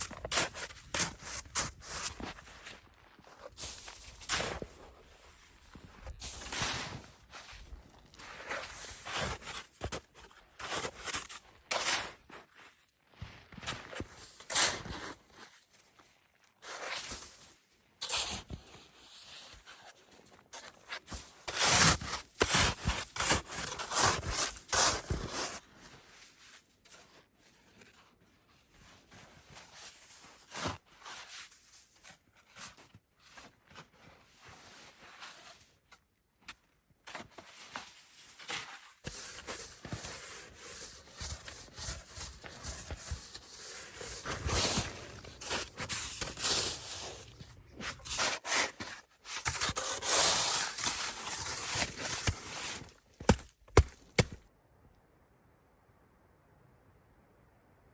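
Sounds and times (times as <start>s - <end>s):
crunching and scraping of snow: 0.0s - 54.4s.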